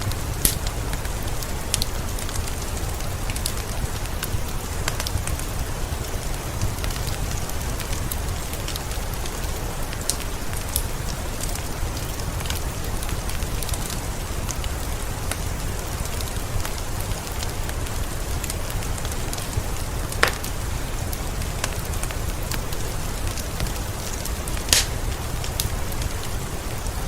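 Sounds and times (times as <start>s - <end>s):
steady rain falling: 0.0s - 27.0s
wood fire crackling: 0.0s - 27.0s.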